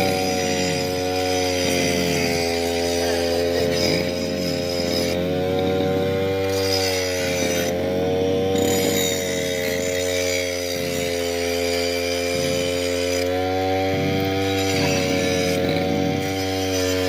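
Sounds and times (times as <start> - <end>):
brush cutter engine running: 0.0 - 17.0.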